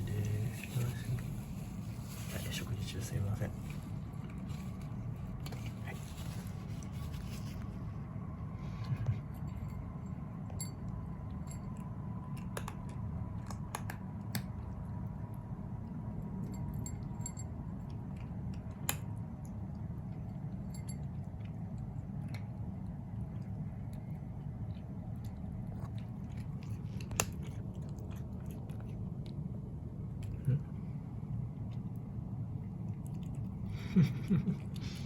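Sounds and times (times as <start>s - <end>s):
low room hum: 0.0s - 35.0s
pet crunching food: 0.0s - 35.0s.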